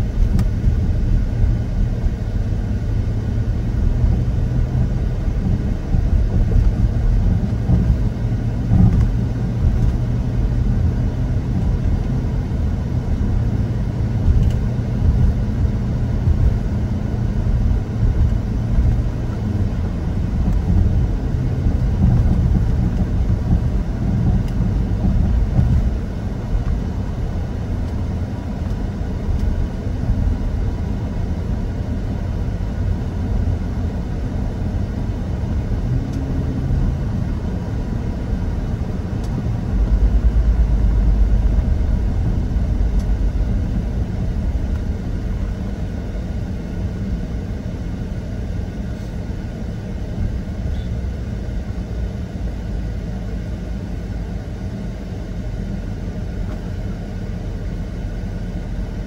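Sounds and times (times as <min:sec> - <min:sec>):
low vehicle rumble: 0:00.0 - 0:59.0.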